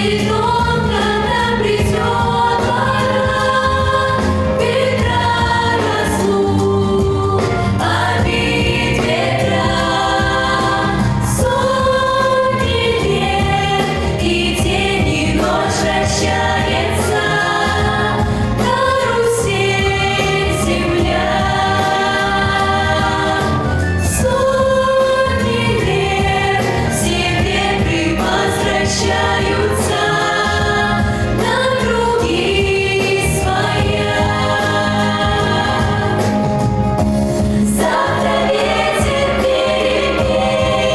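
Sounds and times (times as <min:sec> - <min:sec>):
children singing together: 0:00.0 - 0:36.7, 0:37.4 - 0:40.9
instrumental backing track: 0:00.0 - 0:40.9.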